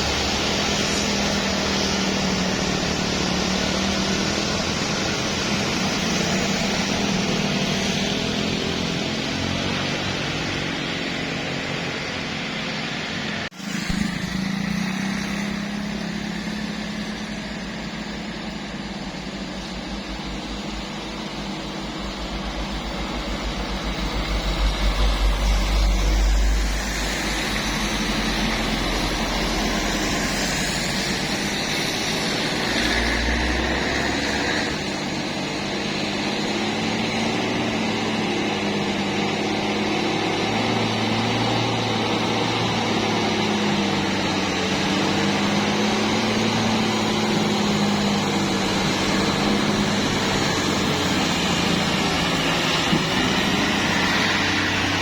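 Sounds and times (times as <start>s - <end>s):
heavy engine deep pulsing rumble: 0.0s - 55.0s
road traffic engines under load: 0.0s - 55.0s.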